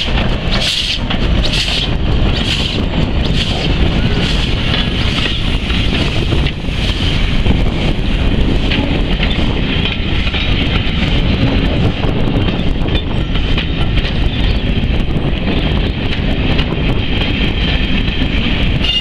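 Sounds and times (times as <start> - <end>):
steam locomotive pulling away: 0.0 - 16.5
train coaches rumbling on rails: 0.0 - 19.0
wind noise on microphone: 0.0 - 19.0.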